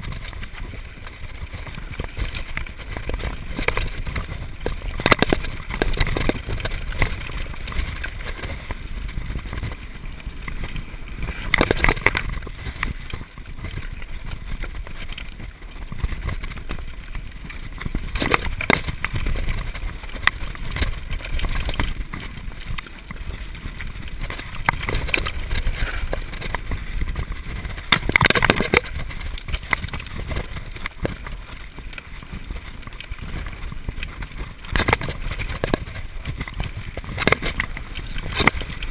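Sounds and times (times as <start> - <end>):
bike knocking and rattling: 0.0 - 38.9
bike tyres rumbling on dirt: 0.0 - 38.9
wind on microphone: 0.0 - 38.9.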